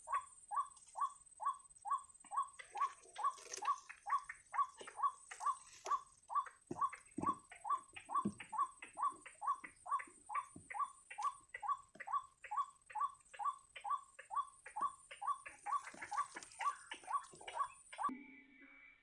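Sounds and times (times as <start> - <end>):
bird calling rhythmically: 0.0 - 18.1.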